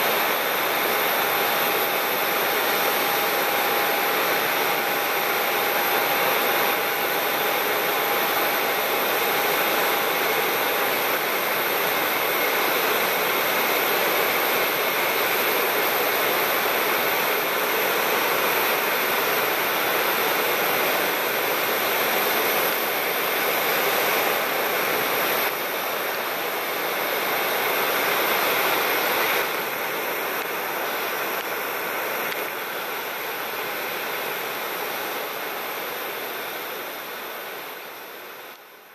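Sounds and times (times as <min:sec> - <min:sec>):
airliner engines rushing hiss: 0:00.0 - 0:38.6.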